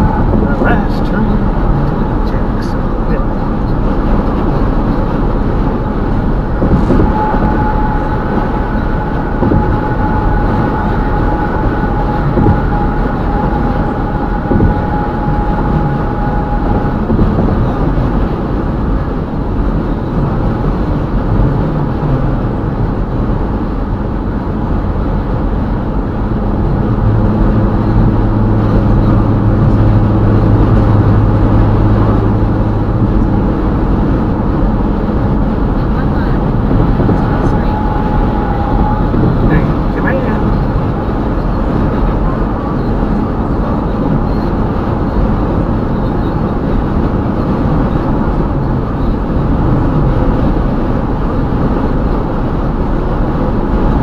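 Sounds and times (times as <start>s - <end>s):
car road rumble: 0.0s - 54.0s
high steady whine: 0.0s - 54.0s
low steady hum: 0.0s - 54.0s.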